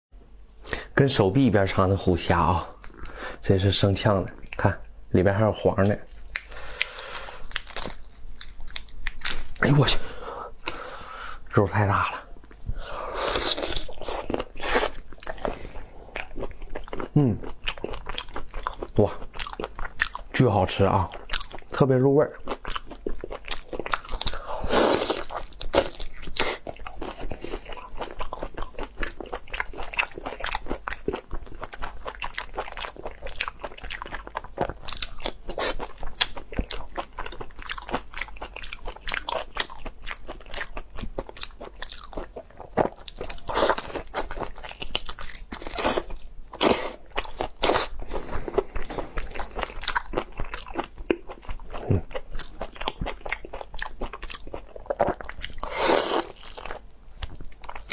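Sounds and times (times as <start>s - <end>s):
person chewing prawn: 2.6s - 3.4s, 5.8s - 11.6s, 12.2s - 57.9s.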